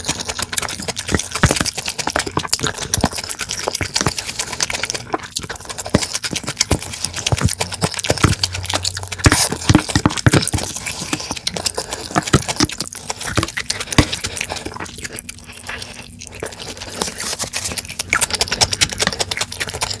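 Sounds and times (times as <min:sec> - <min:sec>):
wet chewing and slurping: 0:00.0 - 0:20.0.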